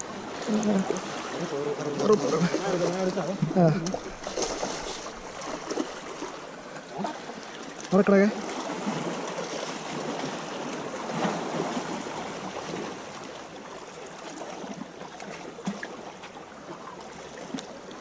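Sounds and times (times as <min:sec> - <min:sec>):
sea water washing: 0:00.0 - 0:18.0.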